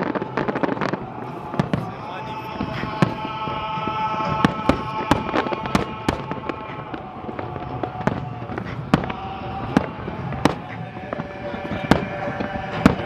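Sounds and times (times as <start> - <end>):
firework bangs and cracks: 0.0 - 13.0.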